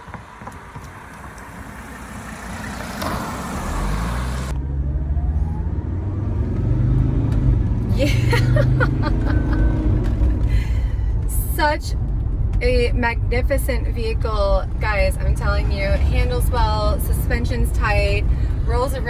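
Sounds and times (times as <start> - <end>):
diesel car engine drone: 0.0 - 19.0.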